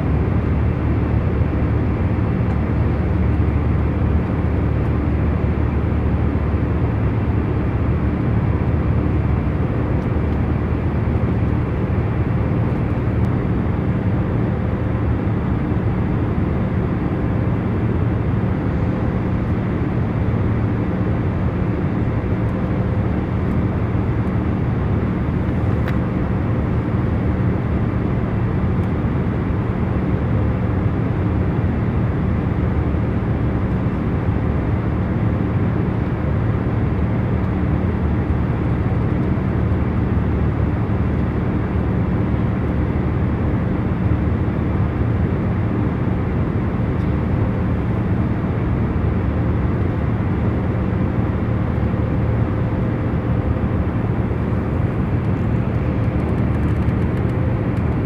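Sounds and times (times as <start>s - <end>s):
airliner engine and airflow rumble: 0.0s - 58.0s.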